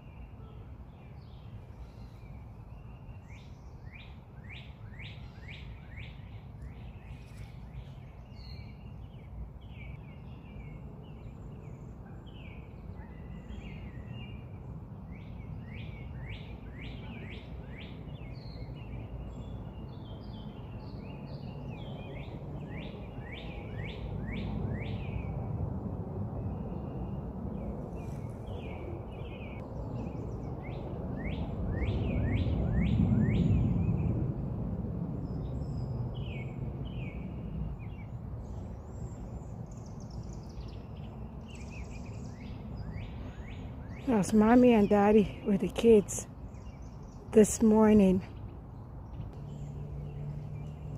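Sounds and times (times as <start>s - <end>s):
songbirds singing: 0.0s - 34.4s, 35.0s - 50.9s.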